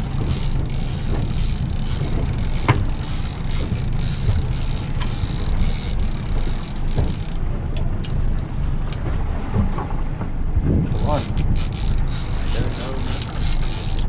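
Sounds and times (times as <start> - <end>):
boat engine running: 0.0 - 14.0
wind on microphone: 0.0 - 14.0.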